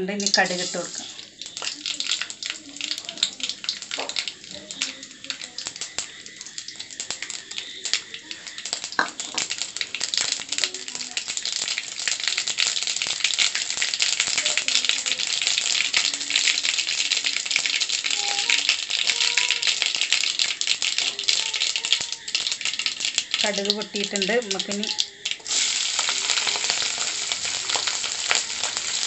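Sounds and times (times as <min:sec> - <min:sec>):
seeds popping in hot oil: 0:00.0 - 0:29.0.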